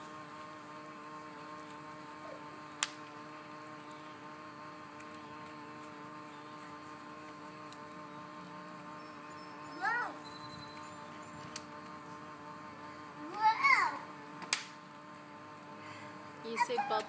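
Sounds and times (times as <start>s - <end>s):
small fan motor humming: 0.0s - 17.0s.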